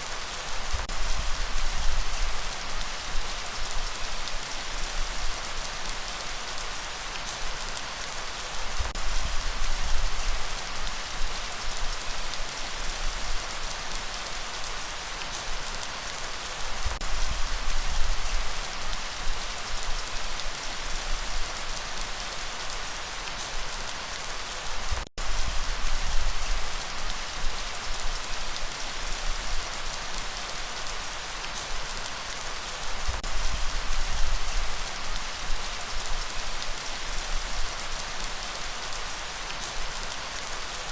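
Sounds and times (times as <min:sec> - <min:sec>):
dense rainfall hiss: 0:00.0 - 0:40.9.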